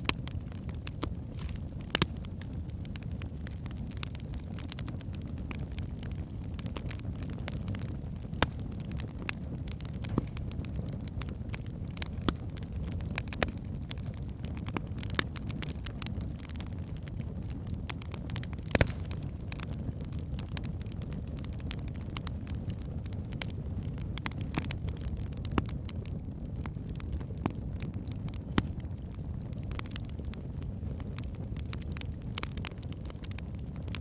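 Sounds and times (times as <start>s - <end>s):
fire flames rumbling: 0.0s - 34.0s
logs crackling and popping: 0.0s - 34.0s.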